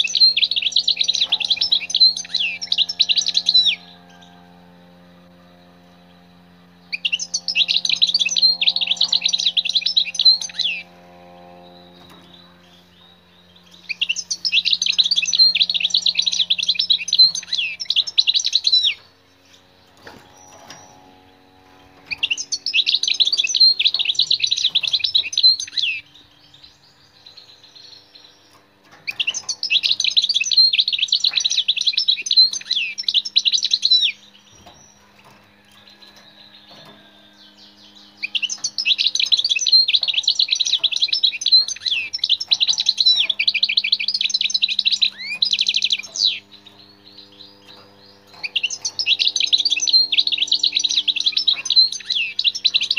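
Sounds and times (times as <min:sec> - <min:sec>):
goldfinch singing: 0:00.0 - 0:52.9.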